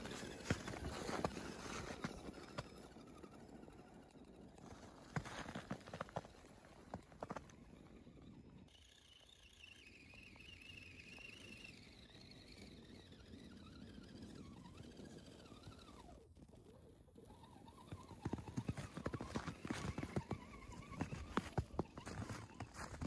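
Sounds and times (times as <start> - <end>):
electric motor and gears whining: 0.0 - 23.0.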